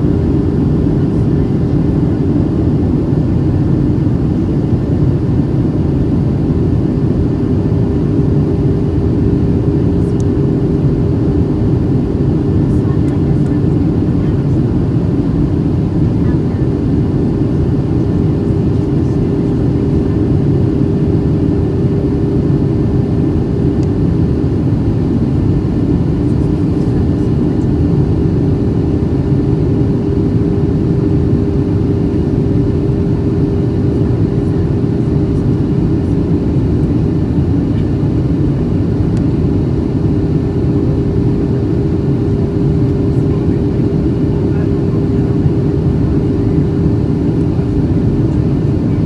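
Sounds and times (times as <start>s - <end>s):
jet engine drone in cabin: 0.0s - 49.0s.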